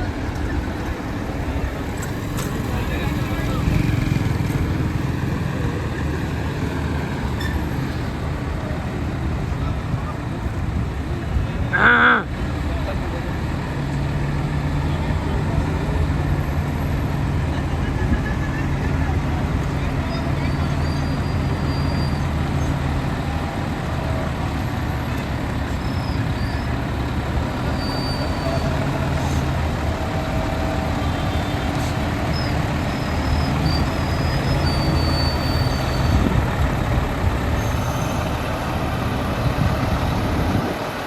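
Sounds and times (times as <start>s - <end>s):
faint voices: 0.0s - 41.0s
street traffic noise: 0.0s - 41.0s
truck diesel engine rumbling: 0.0s - 41.0s.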